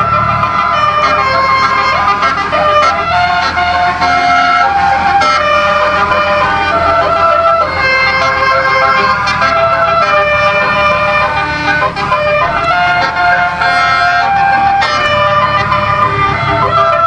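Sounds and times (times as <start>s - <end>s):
air-horn trumpets playing melody: 0.0s - 17.0s.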